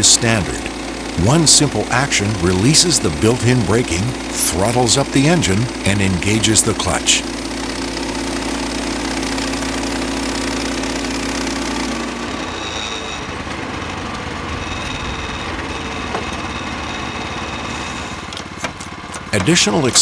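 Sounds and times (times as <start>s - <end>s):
sawmill gas engine running: 0.0s - 20.0s.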